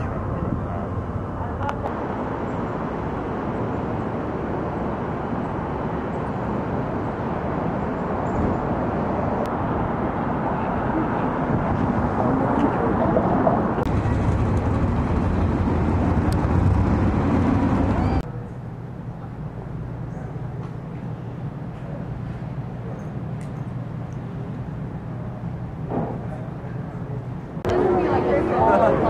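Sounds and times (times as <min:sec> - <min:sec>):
street traffic hum: 0:00.0 - 0:29.0.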